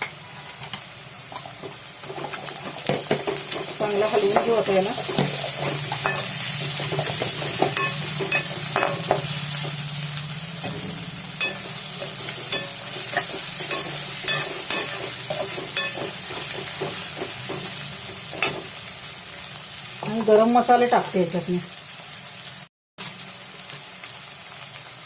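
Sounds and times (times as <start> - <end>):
onions sizzling in a pan: 0.0 - 25.0.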